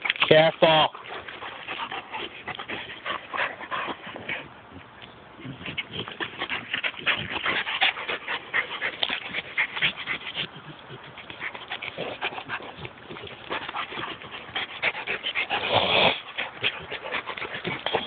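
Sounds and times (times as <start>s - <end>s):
dogs panting: 0.0s - 18.0s
dogs breathy play noises: 0.9s - 18.0s.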